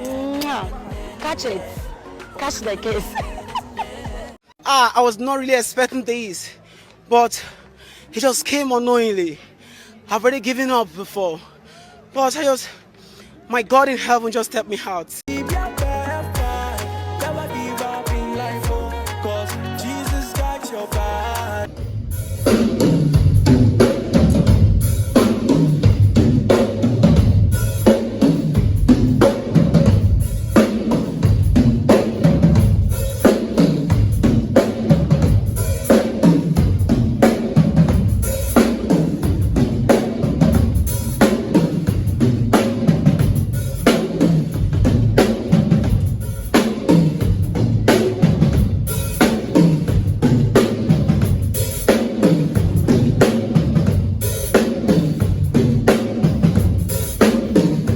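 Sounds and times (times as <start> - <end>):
drum kit played fast: 0.0 - 4.4, 15.3 - 57.9.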